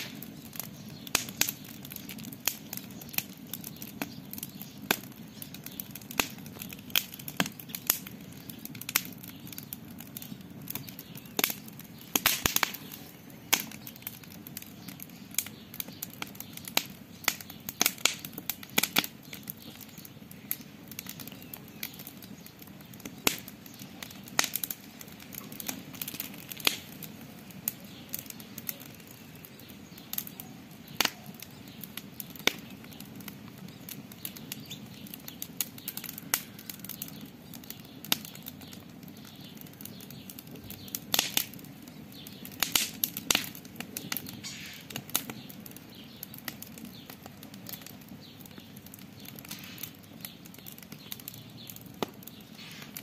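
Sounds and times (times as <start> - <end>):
campfire crackling and popping: 0.0 - 53.0
low rumble of fire: 0.0 - 53.0.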